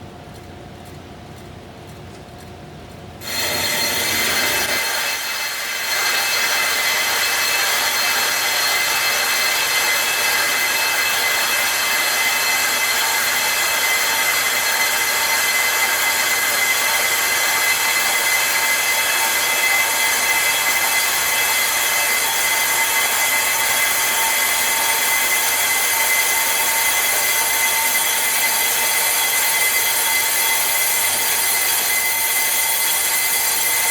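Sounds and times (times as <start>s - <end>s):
metallic squeal of brake disc lathe: 3.2s - 33.9s.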